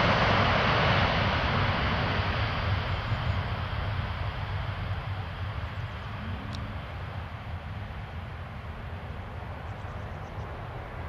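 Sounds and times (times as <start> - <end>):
jet aircraft rushing noise: 0.0 - 11.0
low rumble: 0.0 - 11.0.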